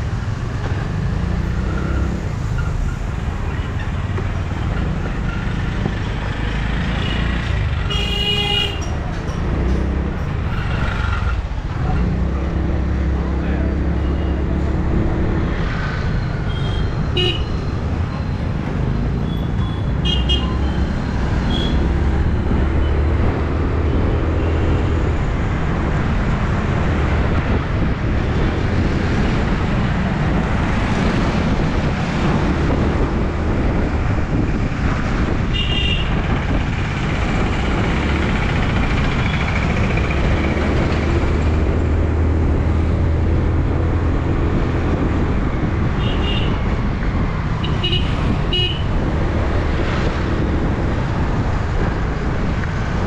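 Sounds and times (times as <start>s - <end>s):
wind and road noise: 0.0s - 53.0s.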